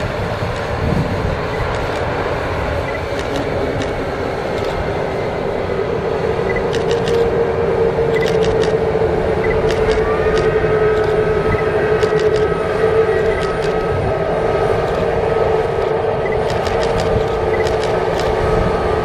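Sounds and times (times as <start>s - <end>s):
high whine rising in pitch: 0.0s - 19.0s
jet engine roar: 0.0s - 19.0s.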